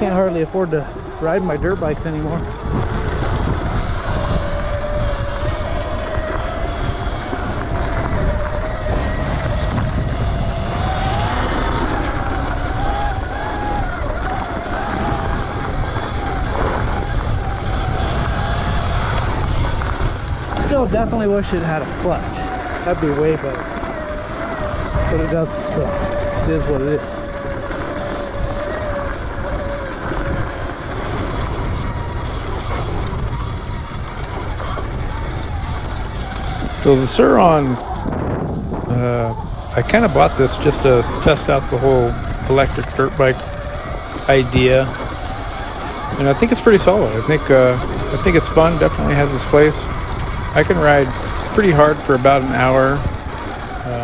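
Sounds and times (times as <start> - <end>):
electric motor whining: 0.0 - 54.0
wind rumble on microphone: 0.0 - 54.0.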